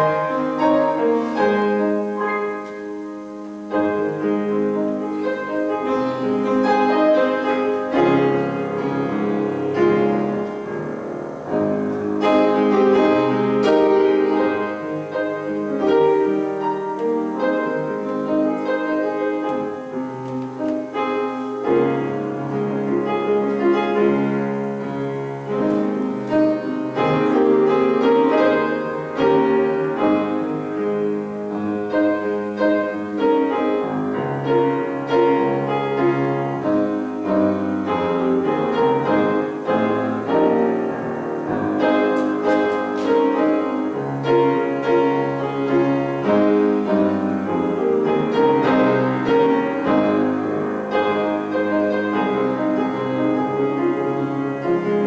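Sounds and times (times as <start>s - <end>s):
grand piano piece: 0.0s - 55.0s.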